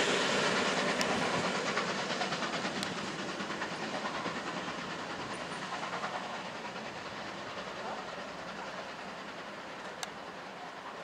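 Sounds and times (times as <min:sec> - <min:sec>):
train wheels clattering on track: 0:00.0 - 0:11.0.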